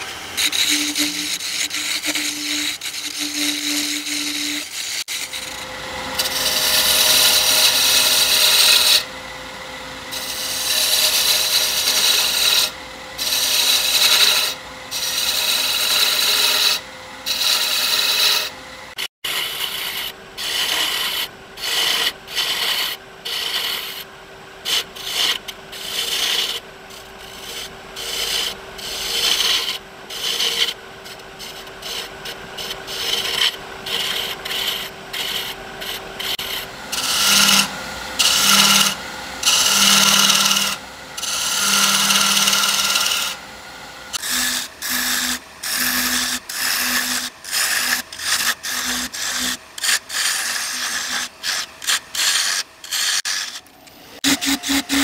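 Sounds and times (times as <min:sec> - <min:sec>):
turning tool rasping on wood: 0:00.0 - 0:05.6, 0:06.2 - 0:09.1, 0:10.1 - 0:43.4, 0:44.1 - 0:55.0
wood lathe humming: 0:00.0 - 0:55.0.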